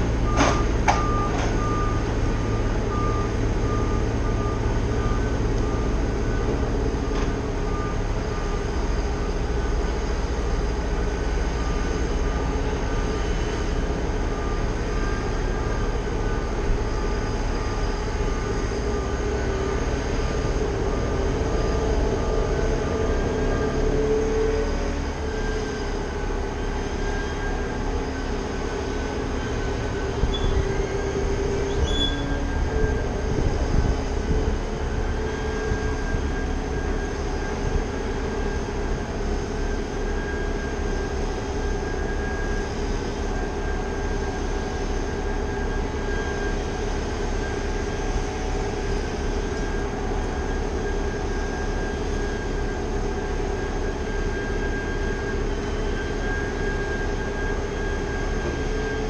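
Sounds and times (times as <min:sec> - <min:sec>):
diesel engine running: 0:00.0 - 0:59.0
droning whine: 0:00.0 - 0:59.0.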